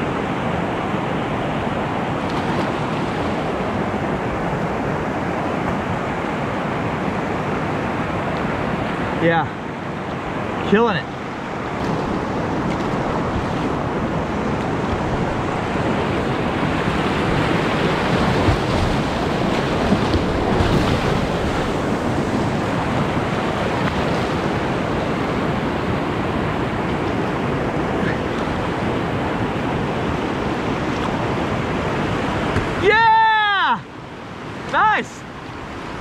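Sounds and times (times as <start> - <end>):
whitewater rushing: 0.0 - 36.0.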